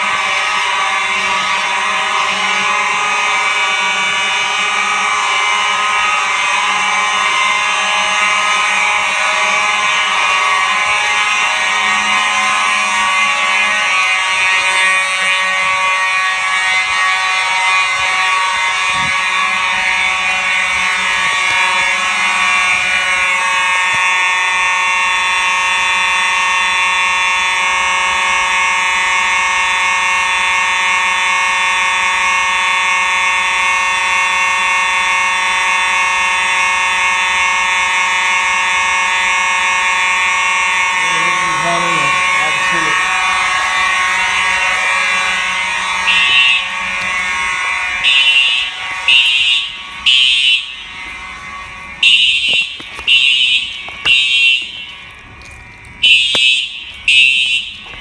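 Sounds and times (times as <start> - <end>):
fire alarm horns: 0.0 - 58.0.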